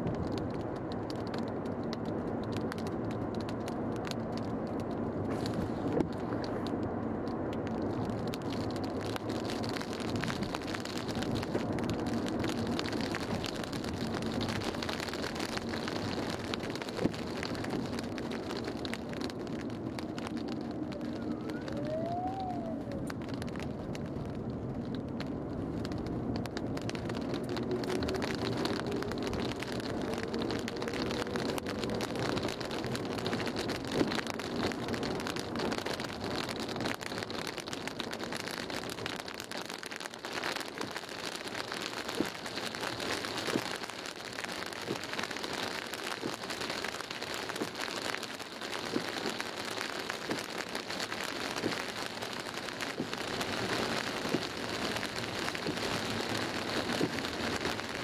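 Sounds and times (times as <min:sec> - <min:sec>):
heavy rain on car roof: 0:00.0 - 0:58.0.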